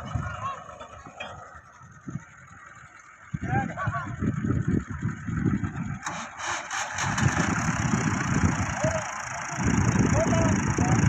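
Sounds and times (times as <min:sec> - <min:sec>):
tractor diesel engine rumble: 0:00.0 - 0:11.0.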